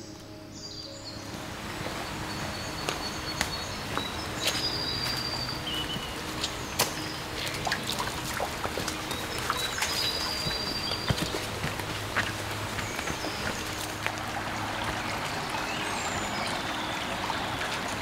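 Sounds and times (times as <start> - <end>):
small birds chirping: 0.0 - 18.0
steady rushing background: 0.0 - 18.0.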